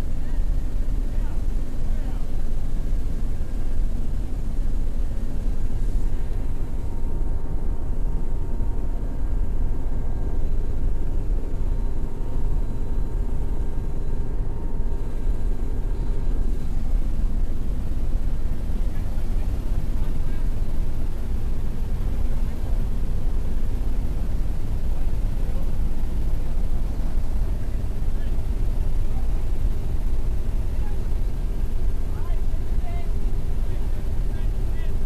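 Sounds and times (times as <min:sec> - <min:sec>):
aircraft engines rumbling: 0:00.0 - 0:35.0
faint whine: 0:00.0 - 0:35.0.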